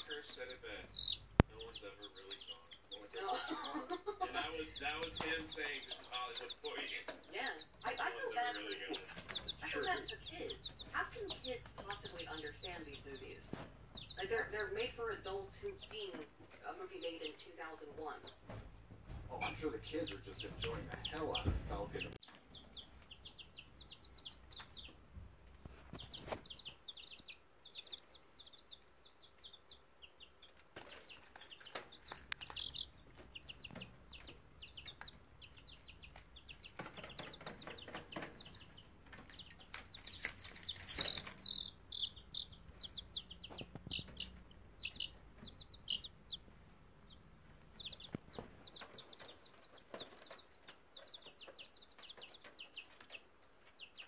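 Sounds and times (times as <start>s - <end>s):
baby chicks peeping: 0.0s - 54.0s.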